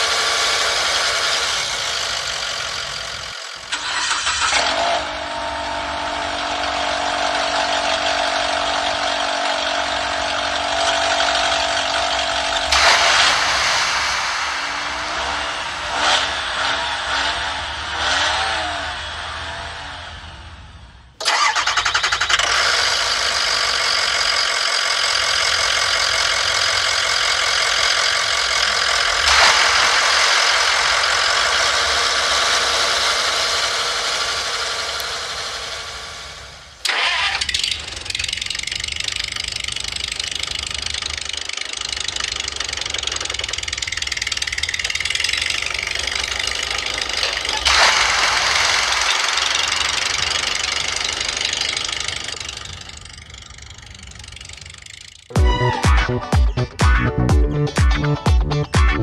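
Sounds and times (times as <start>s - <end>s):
engine sound effect: 0.0s - 59.0s.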